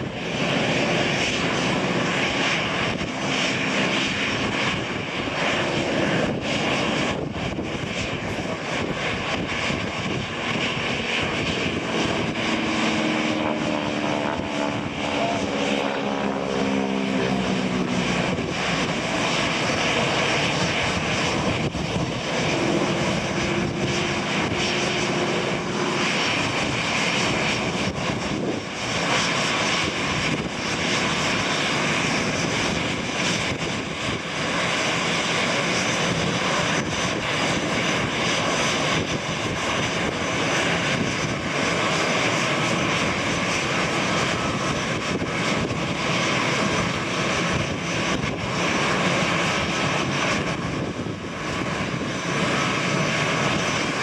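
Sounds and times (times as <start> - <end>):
jet engines at taxi power: 0.0 - 54.0.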